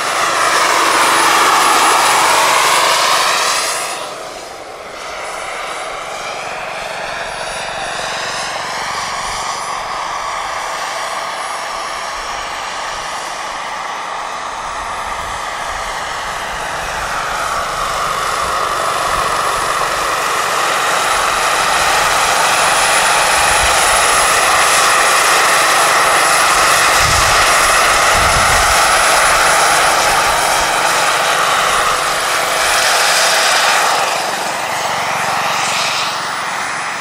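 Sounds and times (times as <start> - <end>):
helicopter rotor noise: 0.0 - 37.0
turbine whine: 0.0 - 37.0.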